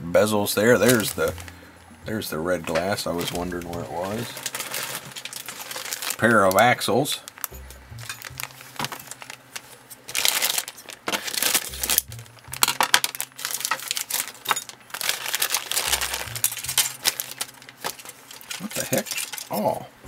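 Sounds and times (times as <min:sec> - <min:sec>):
plastic bag crinkling: 0:00.6 - 0:01.8, 0:02.7 - 0:19.6
plastic parts clinking: 0:00.8 - 0:01.6, 0:02.7 - 0:06.7, 0:07.3 - 0:19.6.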